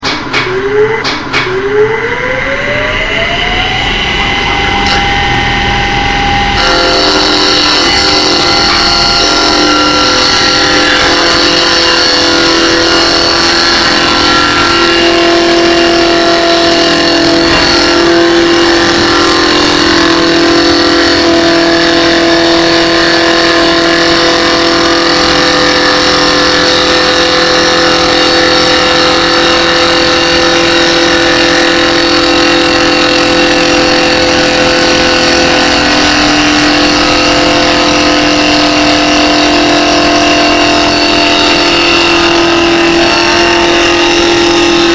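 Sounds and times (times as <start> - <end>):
wood lathe motors whining: 2.6 - 44.9.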